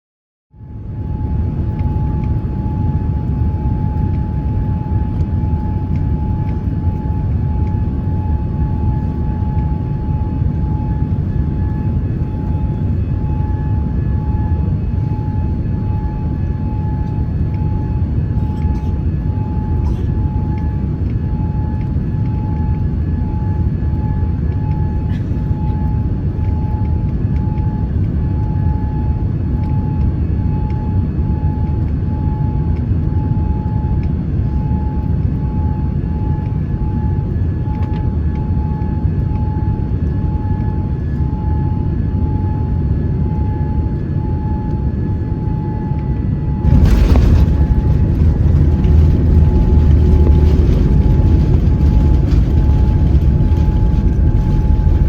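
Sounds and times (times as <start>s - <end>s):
aircraft engines and airflow rumble: 0.6s - 55.0s.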